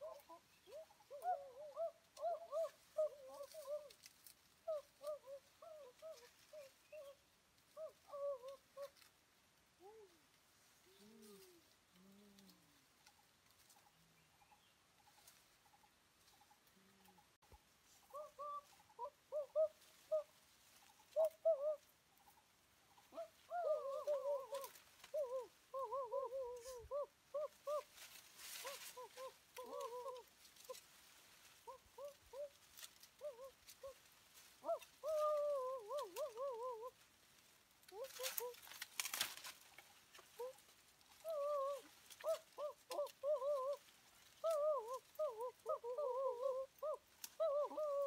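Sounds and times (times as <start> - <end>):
bird cooing: 0.0 - 13.1, 16.6 - 30.9, 31.5 - 37.1, 37.8 - 48.0.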